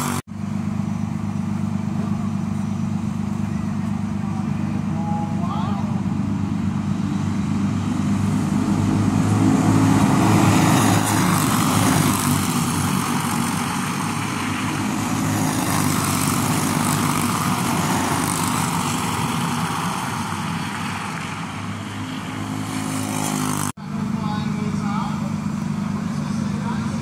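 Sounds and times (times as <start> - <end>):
go-kart engines passing: 0.0 - 0.2, 1.4 - 27.0.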